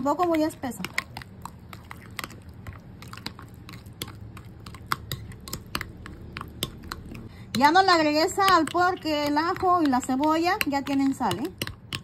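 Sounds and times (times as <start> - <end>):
thick paste wet squishing: 0.0 - 12.0.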